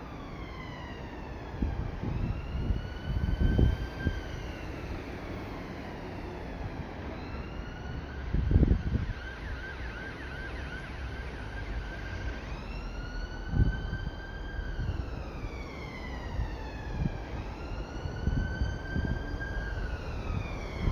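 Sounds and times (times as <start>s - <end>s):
emergency vehicle siren: 0.0s - 20.9s.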